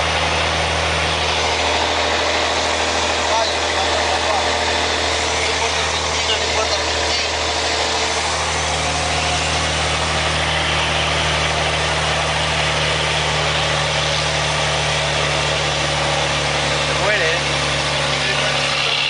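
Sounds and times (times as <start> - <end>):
truck diesel engine idling: 0.0 - 19.0.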